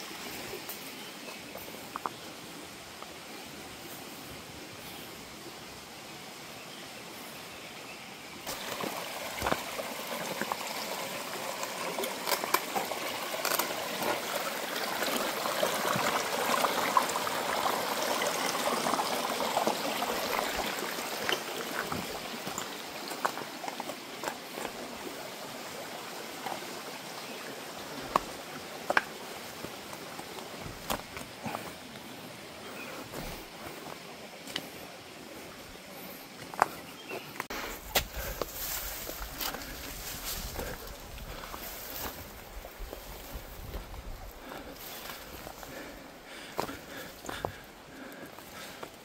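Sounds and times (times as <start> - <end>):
stream water over rocks: 0.0 - 49.0.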